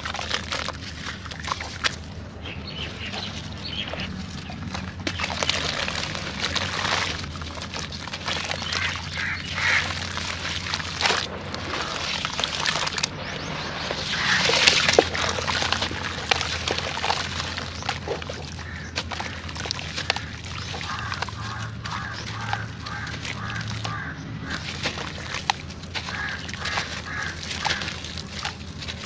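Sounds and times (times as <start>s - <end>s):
cement chunks crumbling and crunching: 0.0s - 2.2s, 3.2s - 13.2s, 13.9s - 29.0s
trickling grit: 0.0s - 29.0s.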